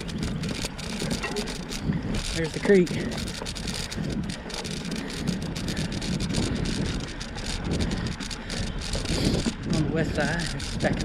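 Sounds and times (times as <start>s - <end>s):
bicycle rolling on dirt trail: 0.0s - 11.0s
bike clicks and rattles: 0.0s - 11.0s
wind buffeting microphone: 0.0s - 11.0s.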